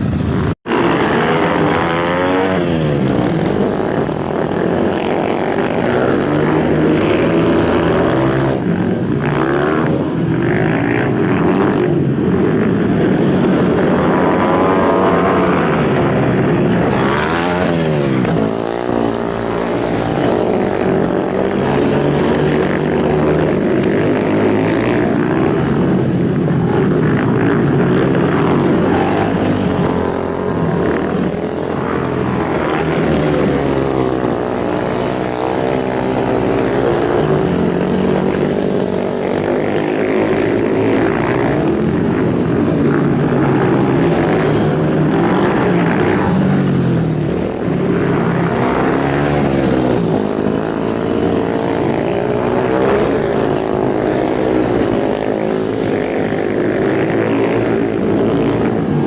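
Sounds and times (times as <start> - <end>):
racing motorcycle engines revving: 0.0 - 59.0.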